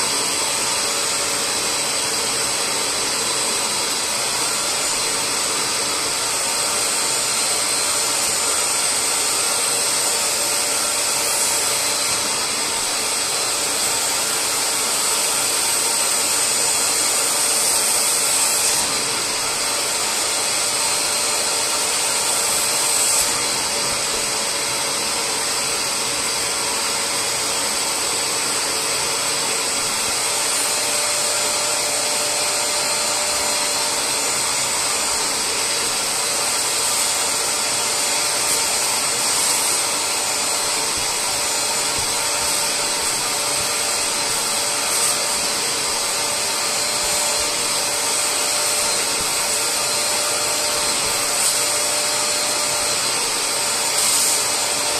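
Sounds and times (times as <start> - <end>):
suction motor whine: 0.0 - 54.9.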